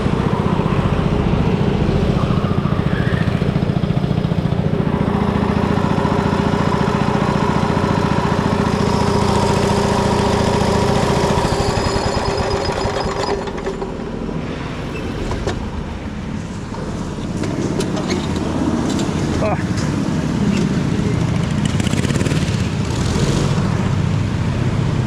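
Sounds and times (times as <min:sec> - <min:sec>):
go-kart engine running: 0:00.0 - 0:14.4, 0:15.4 - 0:25.0.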